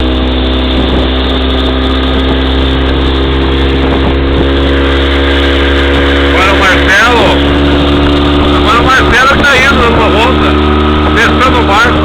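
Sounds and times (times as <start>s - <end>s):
motorboat engine at high speed: 0.0s - 12.0s
water rushing: 0.0s - 12.0s.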